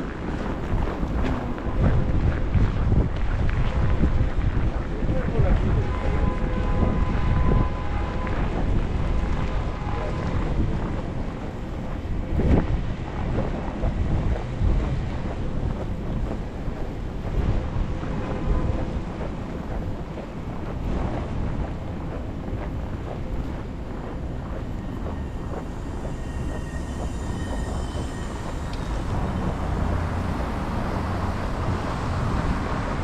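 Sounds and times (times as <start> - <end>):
storm wind buffeting microphone: 0.0 - 33.0.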